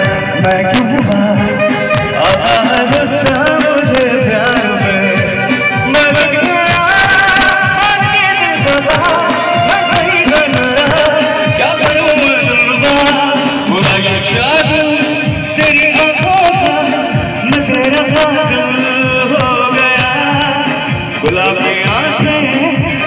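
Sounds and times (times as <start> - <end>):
man singing into a microphone: 0.0 - 23.0
steady hand percussion: 0.0 - 23.0.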